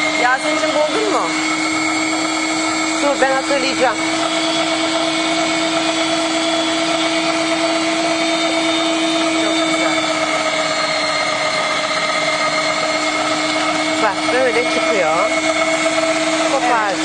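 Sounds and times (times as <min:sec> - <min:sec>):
electric meat grinder whining: 0:00.0 - 0:17.0.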